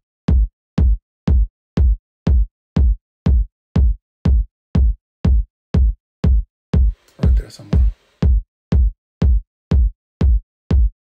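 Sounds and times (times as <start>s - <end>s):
electronic kick drum: 0.3s - 11.0s.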